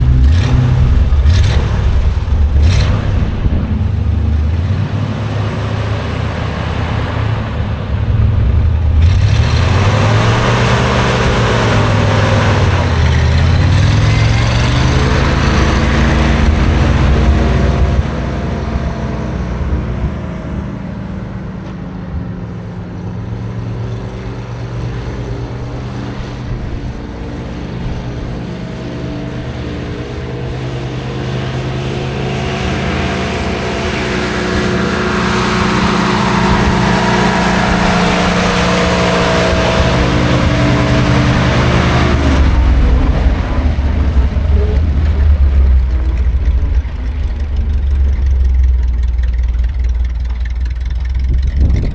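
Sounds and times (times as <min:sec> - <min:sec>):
truck engine revving and idling: 0:00.0 - 0:51.9.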